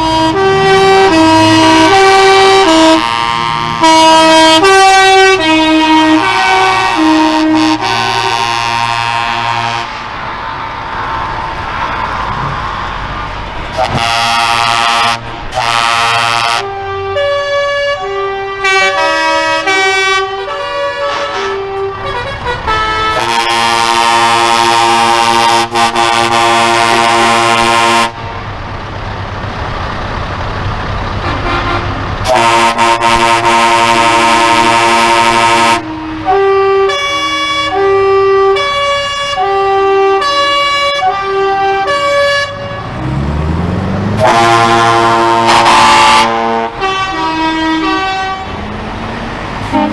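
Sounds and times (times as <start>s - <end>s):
musical truck horn tune: 0.0s - 10.2s, 12.6s - 28.5s, 31.1s - 43.1s, 44.0s - 48.6s, 49.6s - 49.9s
truck air horn blasts: 0.0s - 10.2s, 12.6s - 28.4s, 31.2s - 43.1s, 44.1s - 48.6s, 49.6s - 49.9s.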